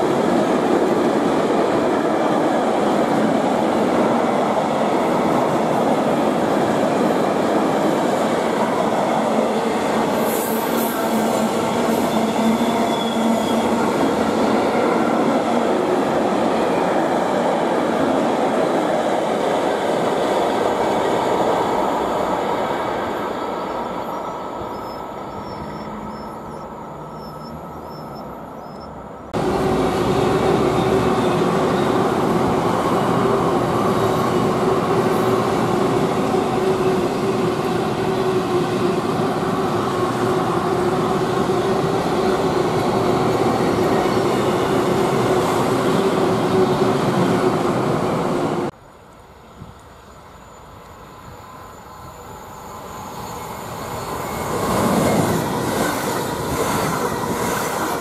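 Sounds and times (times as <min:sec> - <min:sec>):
passing train with hum: 0:00.0 - 0:58.0
train running on rails: 0:00.0 - 0:58.0.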